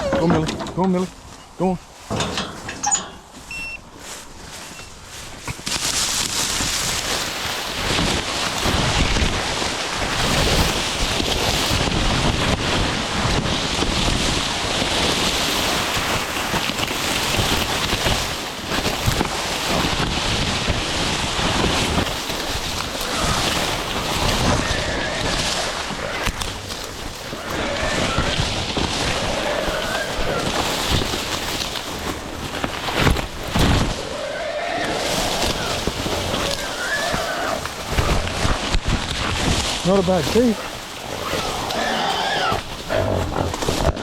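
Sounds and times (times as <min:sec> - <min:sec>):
wind buffeting microphone: 0:01.9 - 0:34.2, 0:34.8 - 0:41.8, 0:42.4 - 0:44.0.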